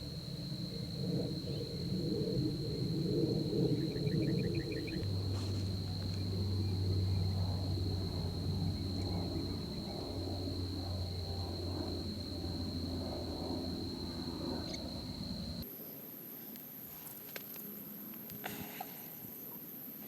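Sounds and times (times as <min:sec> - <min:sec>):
high-pitched insect drone: 0:00.0 - 0:20.0
steady low hum: 0:00.0 - 0:20.0.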